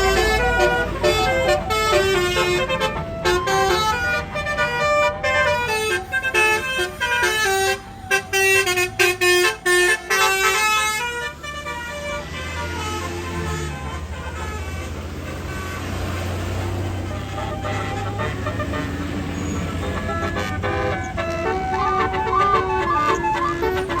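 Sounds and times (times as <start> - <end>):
bus engine running: 0.0 - 24.0
multi-tone air horn melody: 0.0 - 24.0.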